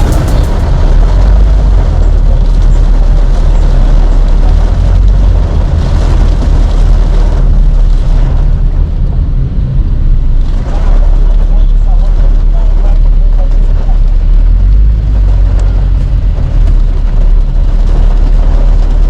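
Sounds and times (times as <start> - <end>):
road and wind noise rumble: 0.0 - 19.0.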